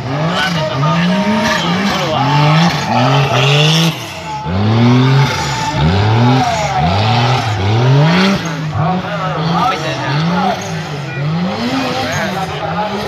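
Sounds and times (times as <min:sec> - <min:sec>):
buggy engine revving hard: 0:00.0 - 0:13.0.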